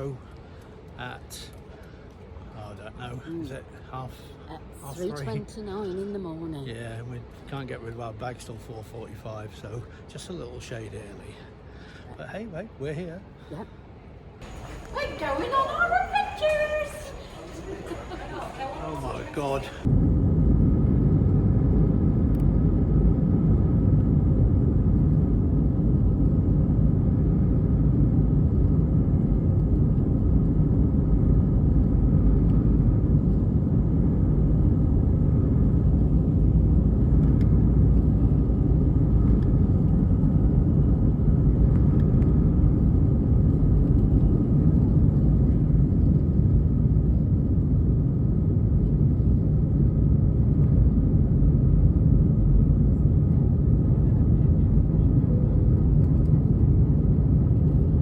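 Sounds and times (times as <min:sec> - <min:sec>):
vehicle engine low rumble: 0:00.0 - 0:58.0.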